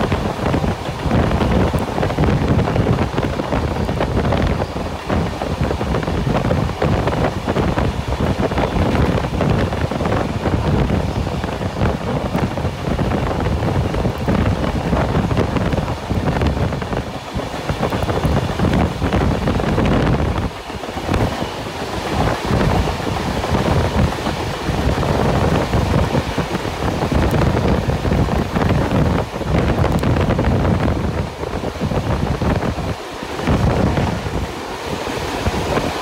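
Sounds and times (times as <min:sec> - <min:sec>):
train rumbling on track: 0:00.0 - 0:36.0
wind buffeting microphone: 0:00.0 - 0:36.0.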